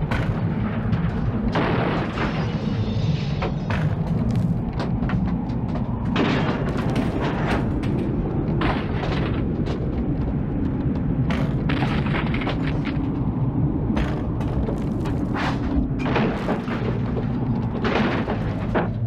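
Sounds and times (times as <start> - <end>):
bangs and rattles: 0.0 - 19.0
deep rumble of storm wind: 0.0 - 19.0.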